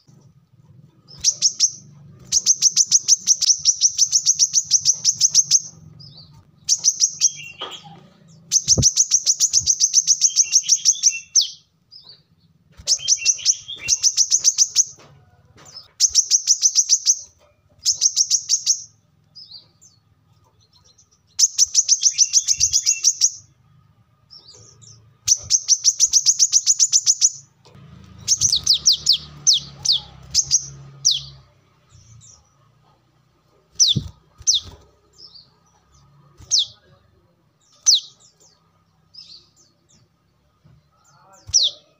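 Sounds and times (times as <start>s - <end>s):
bird singing rapid high trills: 1.0s - 15.0s, 16.0s - 20.0s, 20.8s - 23.6s, 24.3s - 32.6s, 33.7s - 36.8s, 37.6s - 39.9s.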